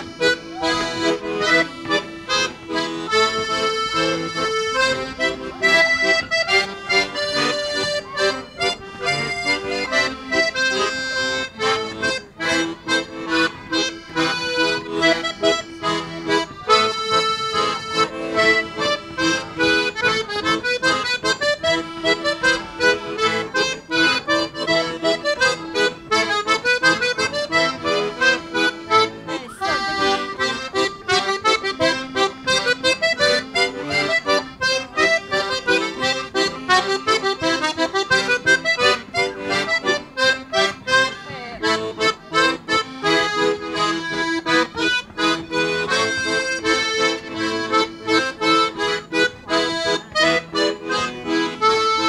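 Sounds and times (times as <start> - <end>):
accordion ensemble playing: 0.0 - 52.0.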